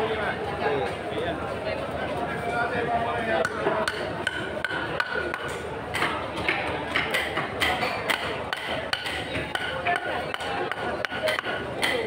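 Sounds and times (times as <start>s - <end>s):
market chatter: 0.0s - 12.0s.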